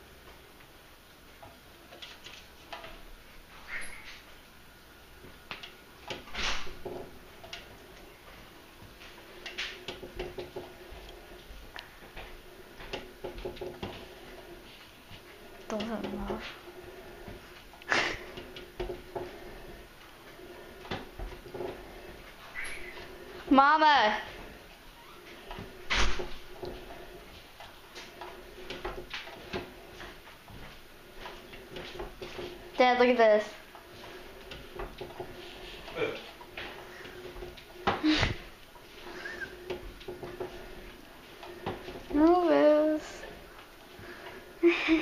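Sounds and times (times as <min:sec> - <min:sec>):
elliptical trainer clunking: 0:05.2 - 0:45.0.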